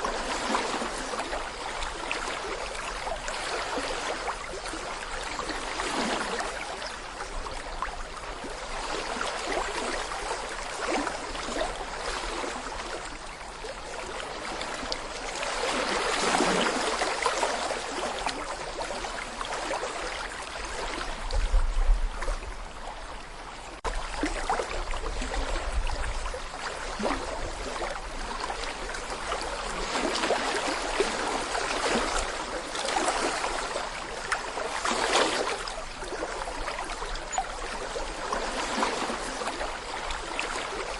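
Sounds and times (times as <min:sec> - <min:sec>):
water gurgling over stones: 0:00.0 - 0:40.9.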